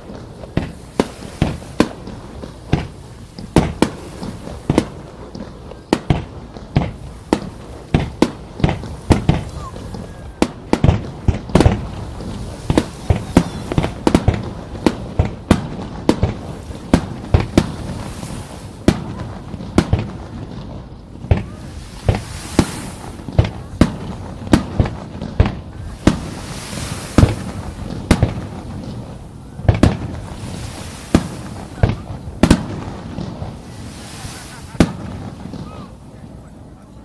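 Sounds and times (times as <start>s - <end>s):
fireworks bangs: 0.0s - 37.0s
fireworks crackling: 0.0s - 37.0s.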